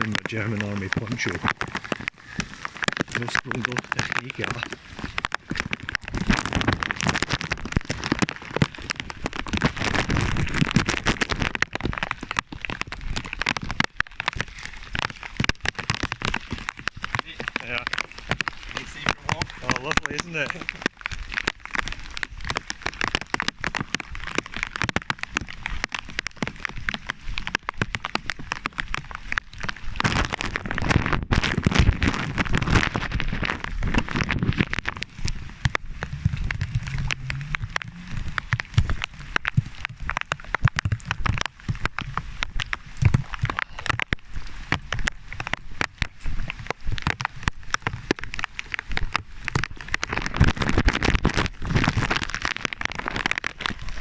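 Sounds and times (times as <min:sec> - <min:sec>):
hiss of heavy downpour: 0:00.0 - 0:31.0, 0:31.6 - 0:54.0
rain tapping on plastic bag: 0:00.0 - 0:54.0.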